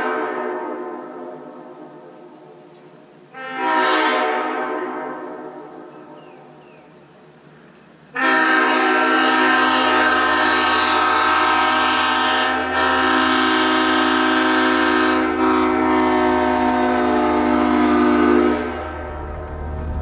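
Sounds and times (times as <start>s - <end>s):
railroad air horns blowing chord: 0.0s - 6.5s, 8.1s - 20.0s.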